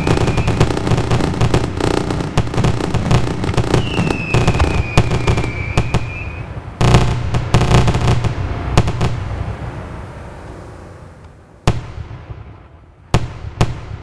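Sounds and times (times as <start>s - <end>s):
rolling echo of bangs: 0.0s - 9.6s, 11.6s - 14.0s
fireworks bangs: 0.0s - 10.4s, 11.0s - 14.0s.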